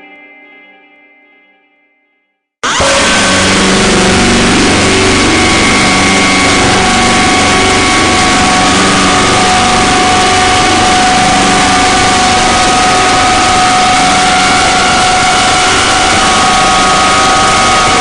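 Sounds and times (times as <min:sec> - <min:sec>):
harsh noise drone music: 0:02.6 - 0:18.0.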